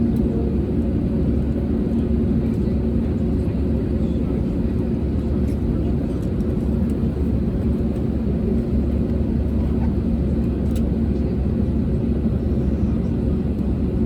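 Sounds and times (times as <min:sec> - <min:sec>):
jet engine low rumble in cabin: 0:00.0 - 0:14.0.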